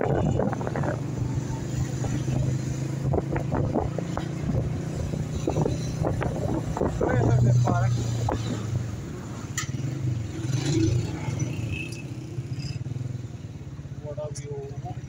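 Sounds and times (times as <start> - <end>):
motorcycle engine drone: 0.0 - 15.0.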